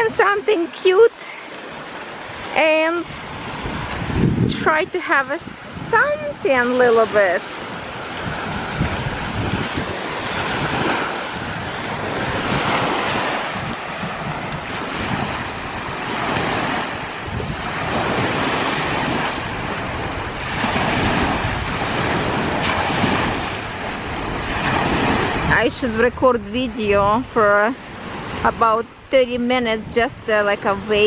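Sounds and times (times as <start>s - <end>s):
lake waves washing on shore: 0.0s - 31.0s
wind blowing on microphone: 0.0s - 31.0s.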